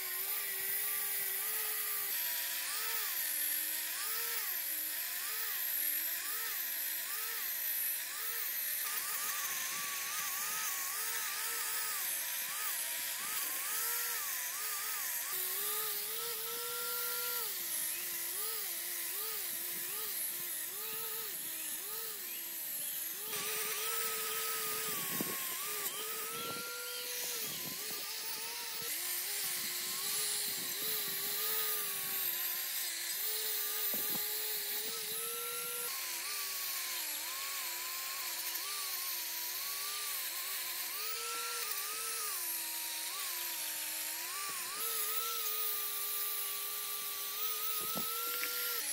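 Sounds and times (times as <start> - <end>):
angle grinder wire brush on metal: 0.0 - 48.9.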